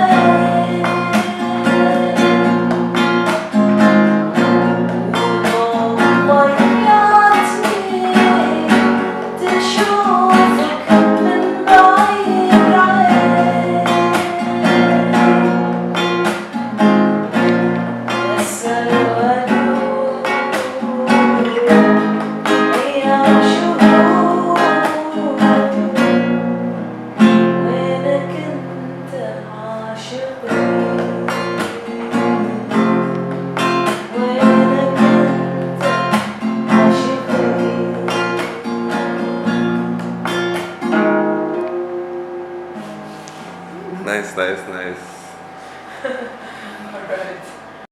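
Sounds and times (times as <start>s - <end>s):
person singing: 0.0s - 16.4s, 17.4s - 26.6s, 27.2s - 39.7s, 41.7s - 44.4s
acoustic guitar strumming: 0.0s - 47.9s.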